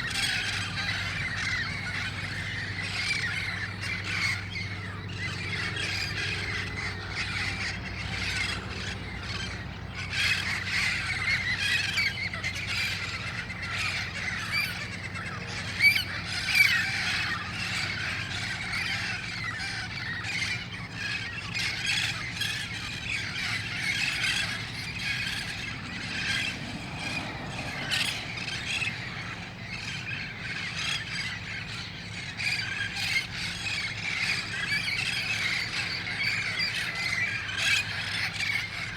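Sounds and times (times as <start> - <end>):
parrots squawking and screeching: 0.0 - 38.9.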